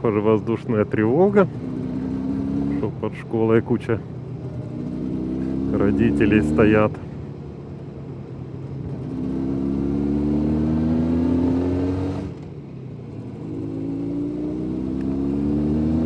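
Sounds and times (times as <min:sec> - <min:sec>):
motorcycle engine accelerating: 0:00.7 - 0:03.3, 0:04.1 - 0:06.9, 0:07.8 - 0:16.0.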